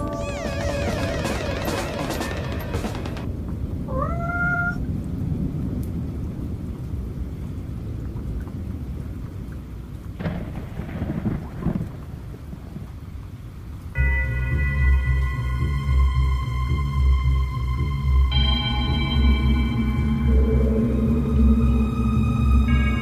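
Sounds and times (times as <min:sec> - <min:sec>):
rain: 0:00.0 - 0:23.0
thunder rumbling: 0:00.0 - 0:23.0.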